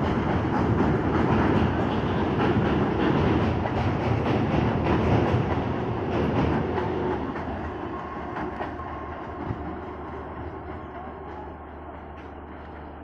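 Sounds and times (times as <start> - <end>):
electric train passing: 0.0 - 13.0
wheels clacking over rail joints: 0.0 - 13.0.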